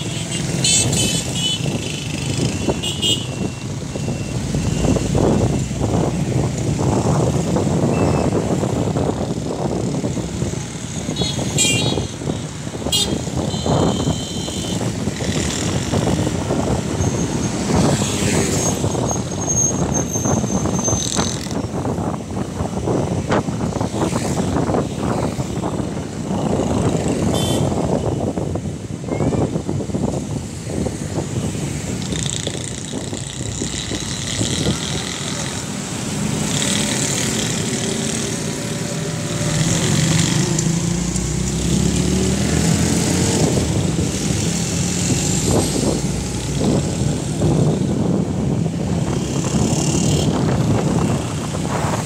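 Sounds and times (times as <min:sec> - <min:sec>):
road traffic noise: 0:00.0 - 0:52.0.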